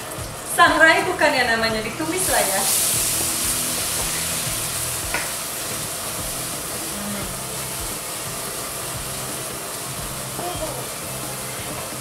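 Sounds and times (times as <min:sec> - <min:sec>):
spice paste sizzling in oil: 0:00.0 - 0:12.0.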